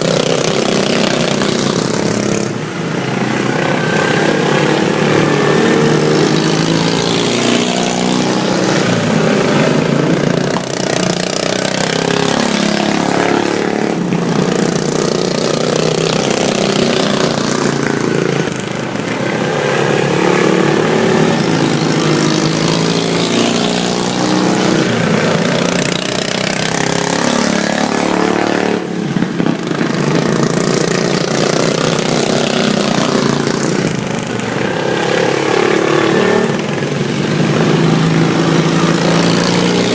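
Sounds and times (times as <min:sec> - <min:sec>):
racing lawn mower engines: 0:00.0 - 0:39.9.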